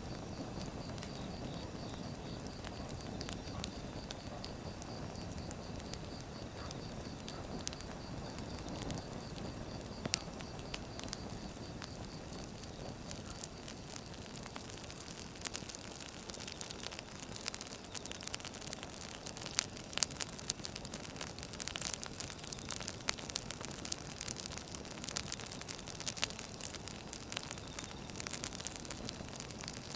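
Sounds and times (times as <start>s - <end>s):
firewood crackling and popping: 0.0s - 29.9s.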